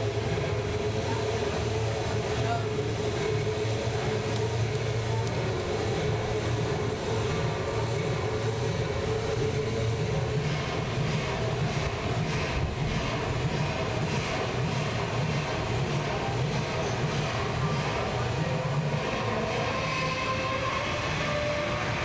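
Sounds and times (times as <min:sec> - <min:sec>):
low rumble of shopping mall: 0:00.0 - 0:22.0.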